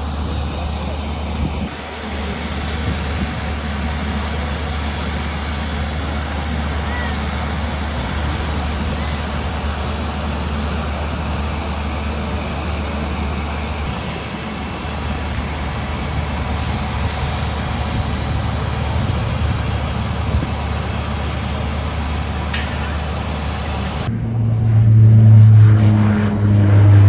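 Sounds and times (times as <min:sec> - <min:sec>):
propeller aircraft engines droning: 0:00.0 - 0:27.0.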